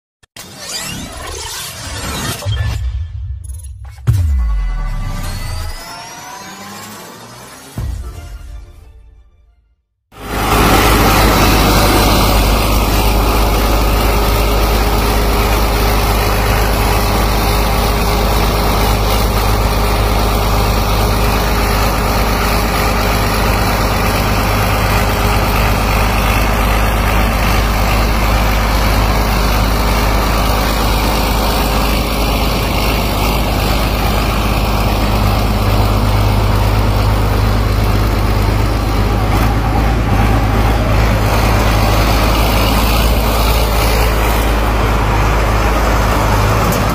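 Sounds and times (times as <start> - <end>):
tracked machine engine running: 3.4 - 8.4, 10.2 - 46.9.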